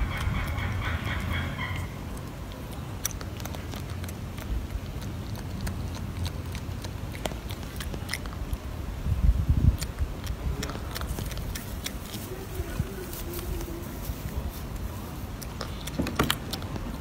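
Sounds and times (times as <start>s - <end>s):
monkey chewing food clicks: 0.0s - 8.7s, 9.6s - 13.8s, 14.7s - 17.0s.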